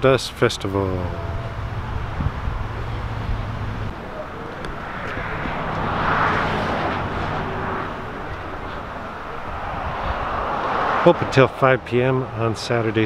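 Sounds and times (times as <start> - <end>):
car passing: 0.5 - 13.0.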